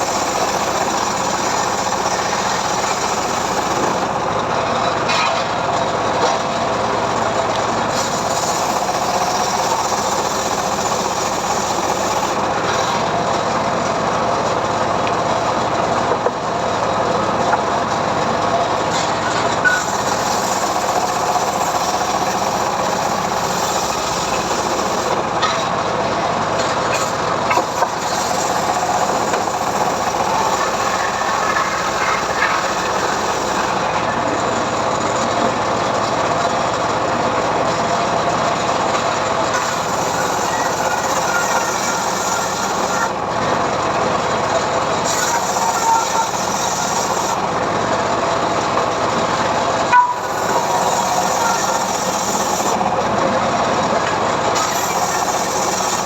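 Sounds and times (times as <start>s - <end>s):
sawmill engine and blade cutting: 0.0s - 56.0s.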